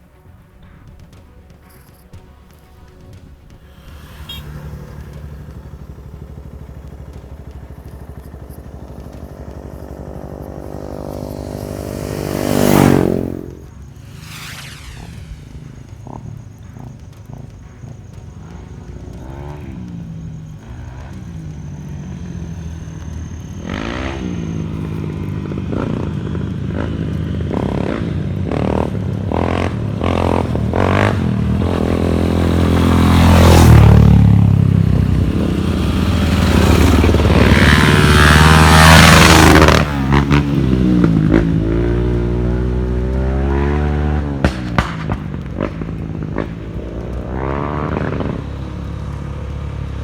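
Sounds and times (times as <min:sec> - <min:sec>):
motorcycle engine revving: 0:00.8 - 0:50.0.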